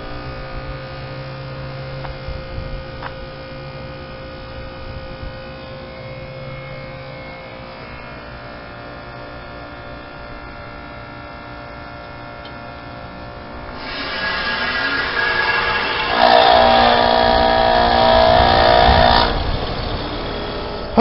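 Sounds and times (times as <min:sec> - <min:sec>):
heat pump humming: 0:00.0 - 0:21.0.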